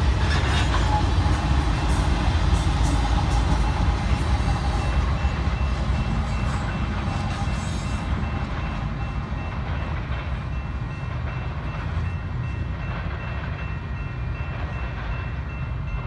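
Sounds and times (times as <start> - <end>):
diesel locomotive rumble: 0.0 - 16.0
crossing bell ringing: 3.0 - 16.0.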